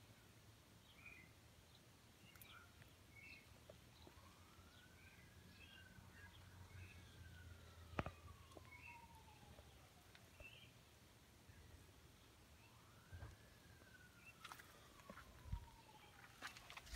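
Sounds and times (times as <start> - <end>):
small birds chirping: 0.0 - 14.9
distant siren: 2.5 - 16.9.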